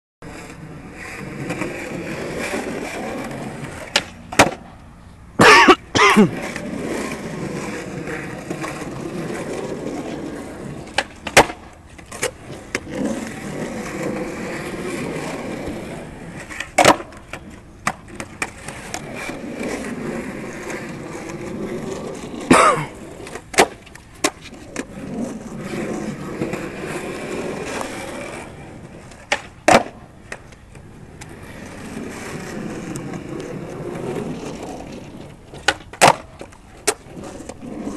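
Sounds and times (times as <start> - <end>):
skateboard wheels rolling on concrete: 0.2 - 37.9
skateboard cracking on landing: 0.4 - 4.8, 5.4 - 37.9.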